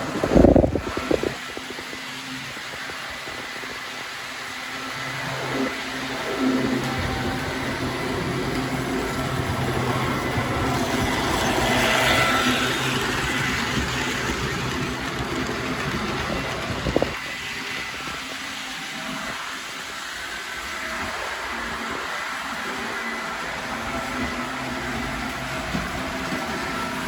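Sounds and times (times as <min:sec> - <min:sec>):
model train motor hum: 0:00.0 - 0:27.0.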